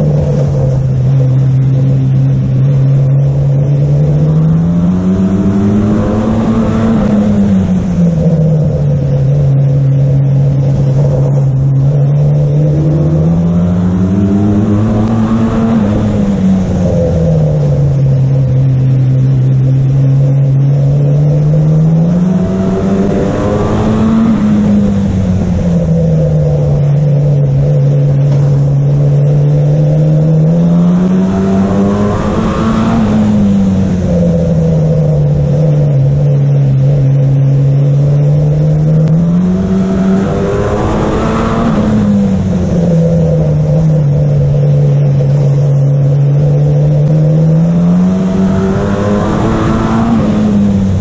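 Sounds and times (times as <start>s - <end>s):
race car engine revving: 0.0s - 51.0s.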